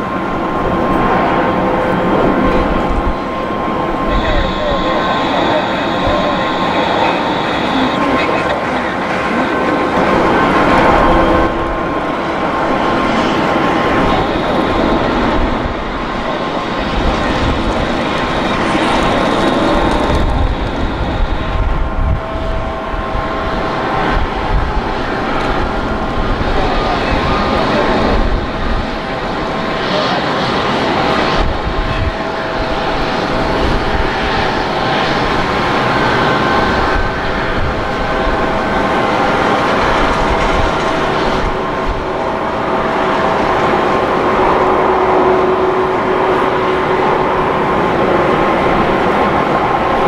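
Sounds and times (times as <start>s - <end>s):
faint engine whine: 0.0s - 50.0s
jet engine noise: 0.0s - 50.0s.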